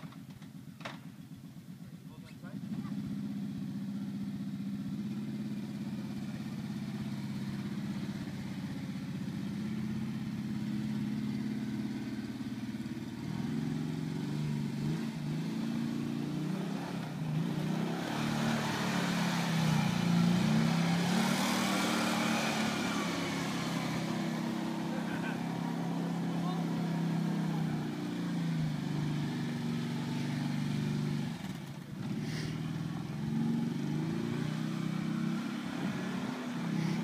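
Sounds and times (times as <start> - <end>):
quad bike engine revving: 2.2 - 37.0.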